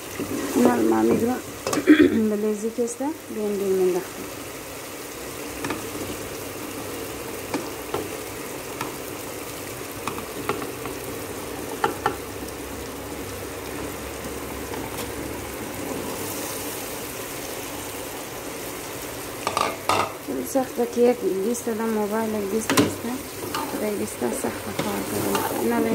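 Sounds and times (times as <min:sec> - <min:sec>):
masala sizzling in a pot: 0:00.0 - 0:25.9.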